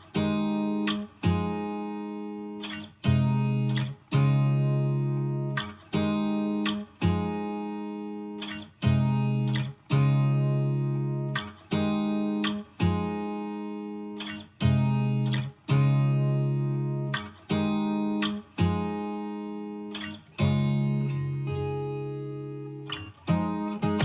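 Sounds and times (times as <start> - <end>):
acoustic guitar chords ringing: 0.0 - 24.0.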